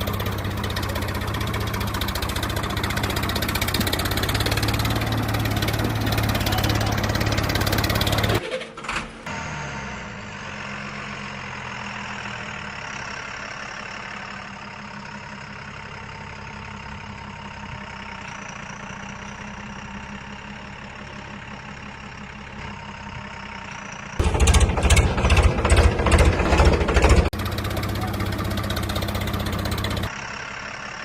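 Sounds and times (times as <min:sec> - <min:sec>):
tractor engine idling: 0:00.0 - 0:08.4, 0:10.2 - 0:31.0.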